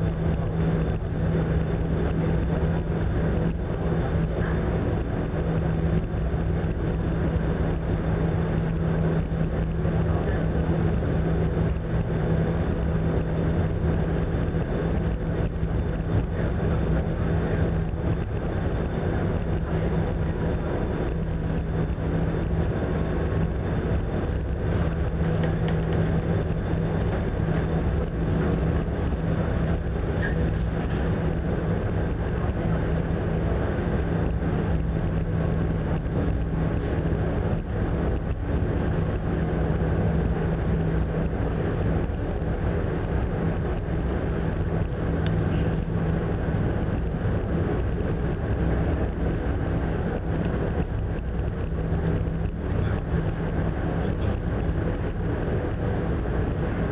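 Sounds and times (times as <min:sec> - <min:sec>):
ferry engines droning: 0:00.0 - 0:56.9.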